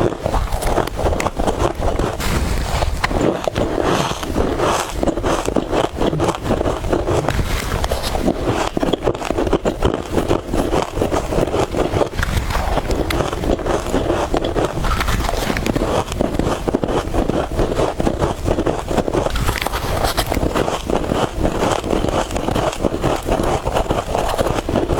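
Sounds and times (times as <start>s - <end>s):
frost being chewed crunching: 0.0s - 24.9s.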